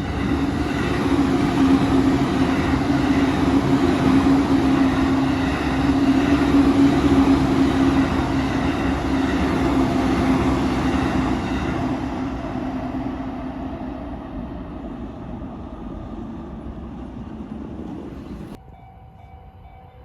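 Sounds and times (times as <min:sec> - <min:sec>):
electric train wheels on rails: 0:00.0 - 0:20.0.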